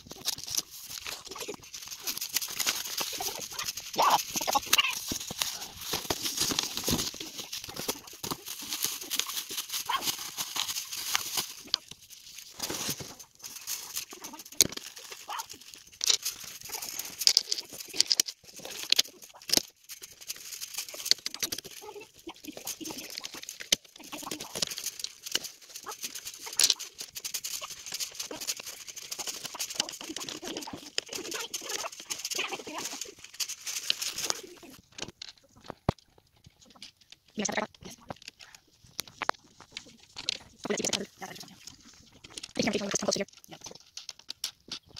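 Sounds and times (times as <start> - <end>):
cardboard rustling: 0.0 - 37.0.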